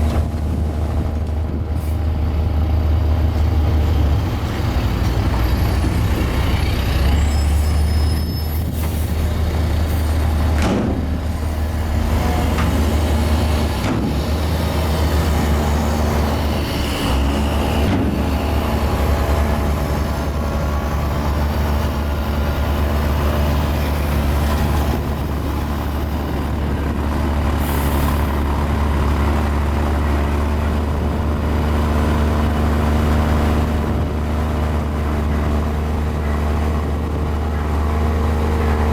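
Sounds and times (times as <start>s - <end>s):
bulldozer diesel engine drone: 0.0s - 38.9s.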